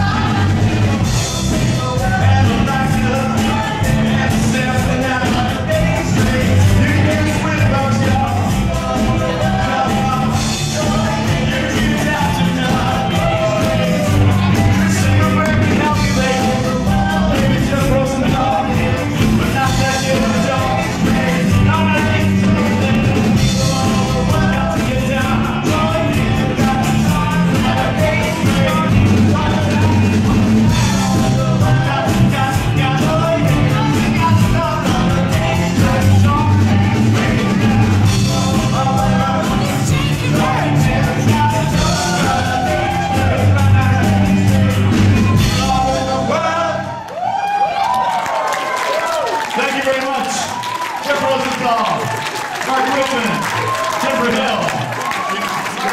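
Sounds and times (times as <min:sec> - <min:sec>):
steady drum beat: 0:00.0 - 0:46.3
electric and acoustic guitars: 0:00.0 - 0:47.0
person singing lead vocal: 0:00.0 - 0:47.0.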